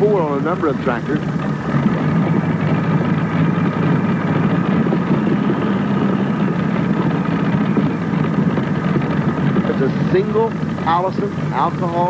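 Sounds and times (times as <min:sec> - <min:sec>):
aircraft engine idling: 0:00.0 - 0:12.0.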